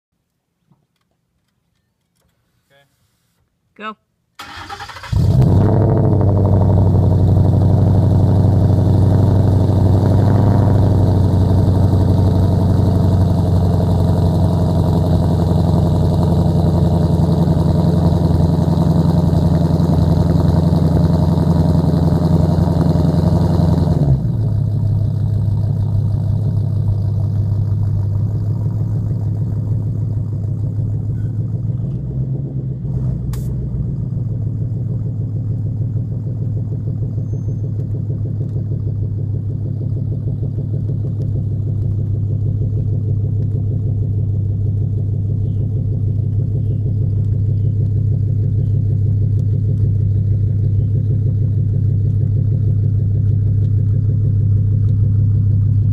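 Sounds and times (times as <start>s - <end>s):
car engine idling loud and deep: 5.1s - 55.9s.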